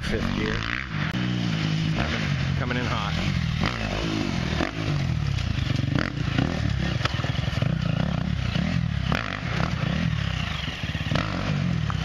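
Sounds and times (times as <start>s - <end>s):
dirt bike engine with throttle blips: 0.0s - 12.0s.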